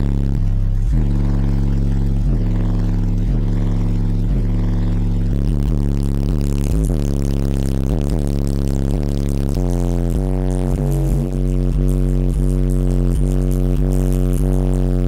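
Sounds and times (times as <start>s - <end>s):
bass-heavy music from subwoofers: 0.0s - 15.0s.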